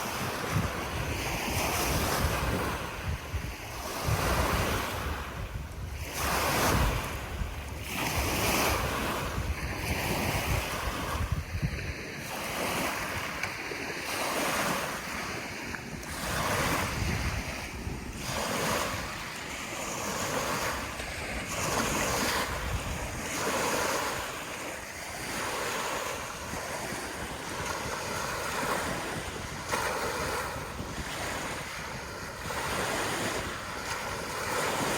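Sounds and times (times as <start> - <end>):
small waves washing ashore: 0.0 - 34.9
wind buffeting microphone: 0.0 - 34.9.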